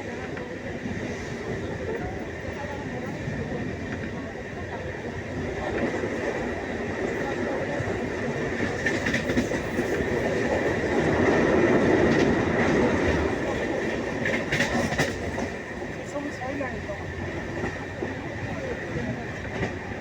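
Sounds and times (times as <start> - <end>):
train rumbling along track: 0.0 - 20.0.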